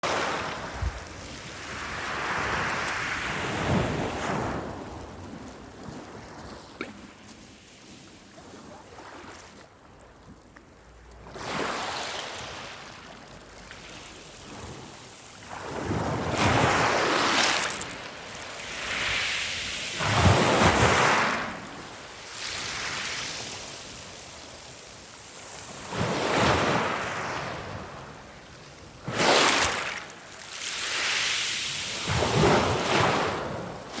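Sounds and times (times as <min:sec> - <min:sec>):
sea waves breaking on shore: 0:00.0 - 0:09.9, 0:10.9 - 0:34.0.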